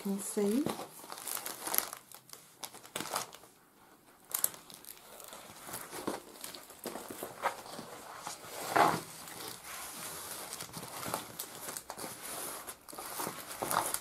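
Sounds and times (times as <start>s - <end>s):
plastic-covered canvas rustling: 0.0s - 14.0s.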